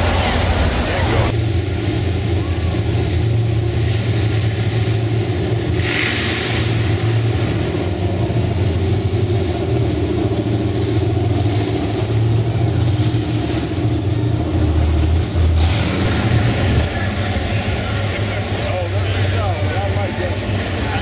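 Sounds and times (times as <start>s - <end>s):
car engines rumbling: 0.0s - 21.0s.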